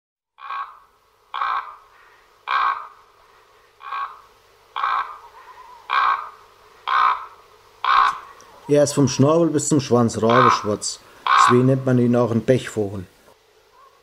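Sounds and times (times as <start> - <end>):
raven calling: 0.4 - 12.4, 13.2 - 14.0.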